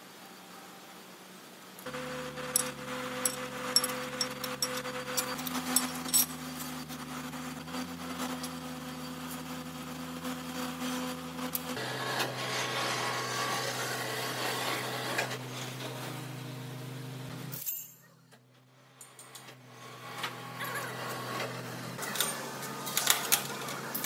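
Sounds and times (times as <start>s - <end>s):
lathe electric drive humming: 1.8s - 17.4s, 19.2s - 24.0s
crane hoist motor rattling: 1.8s - 17.6s, 18.6s - 24.0s.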